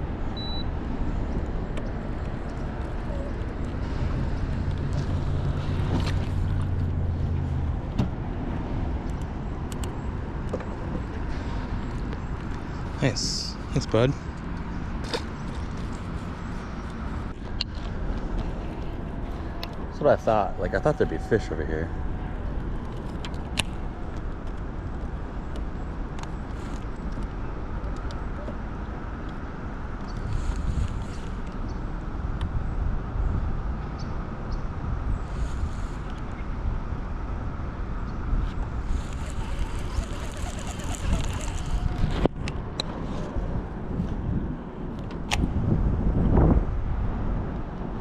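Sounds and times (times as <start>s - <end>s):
low rumbling background noise: 0.0s - 39.4s
engine hum: 0.0s - 48.0s.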